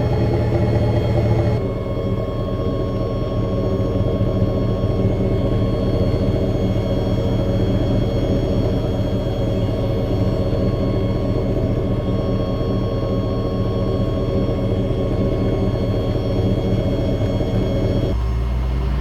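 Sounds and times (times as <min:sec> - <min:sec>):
engine exhaust rumble: 0:00.0 - 0:19.0.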